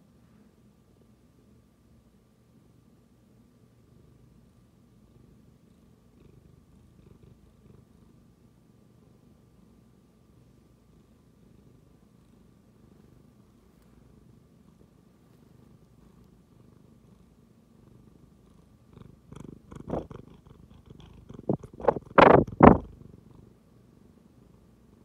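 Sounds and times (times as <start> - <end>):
cat purring: 3.4 - 25.0.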